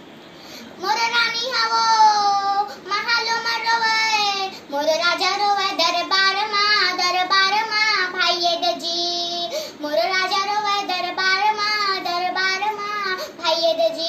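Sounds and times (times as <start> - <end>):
girl singing unaccompanied: 0.7 - 14.0.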